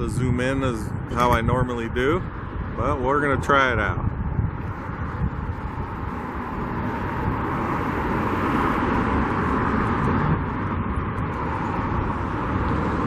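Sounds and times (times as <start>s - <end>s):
roadside traffic: 0.0s - 13.0s
wind rumble on microphone: 0.0s - 13.0s.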